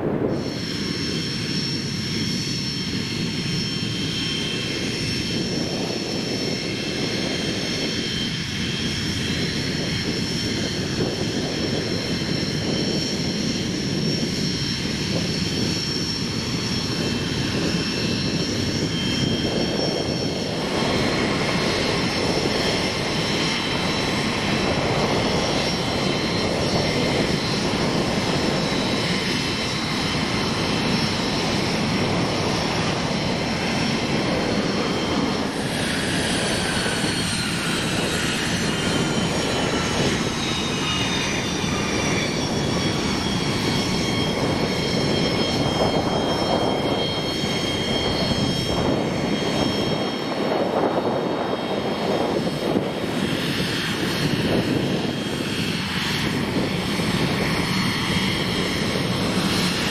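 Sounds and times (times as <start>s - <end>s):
jet engines rushing and whining: 0.0s - 59.9s.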